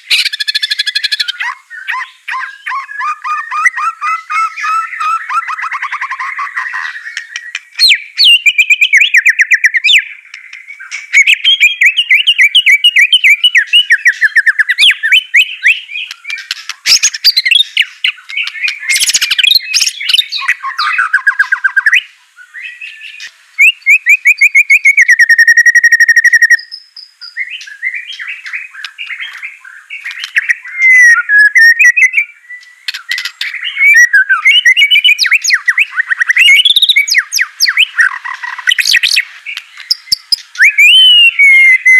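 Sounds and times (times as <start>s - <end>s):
songbird trills and whistles: 0.0s - 41.9s.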